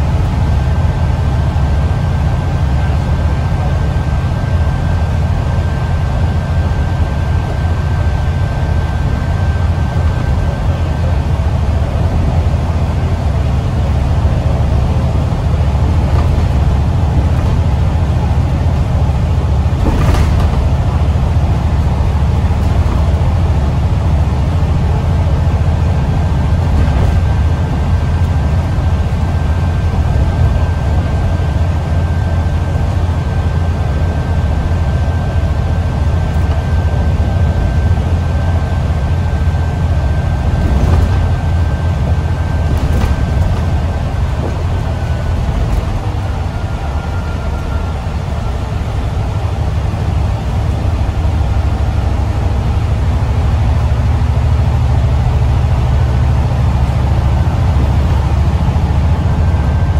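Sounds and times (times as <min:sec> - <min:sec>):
bus engine and road drone: 0:00.0 - 0:59.9
faint high whine: 0:02.4 - 0:52.2.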